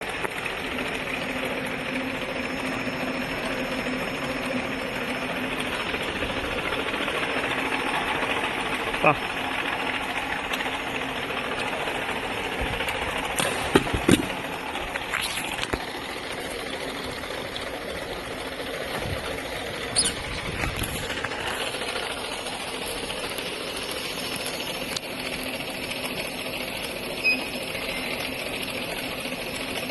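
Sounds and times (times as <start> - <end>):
packaging machinery running: 0.0 - 29.9.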